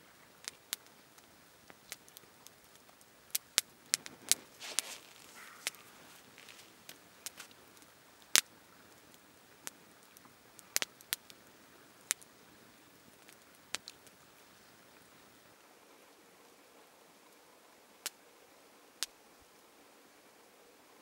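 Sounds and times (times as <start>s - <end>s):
campfire crackling: 0.0s - 18.2s, 18.9s - 19.7s
faint steady hiss: 0.0s - 21.0s.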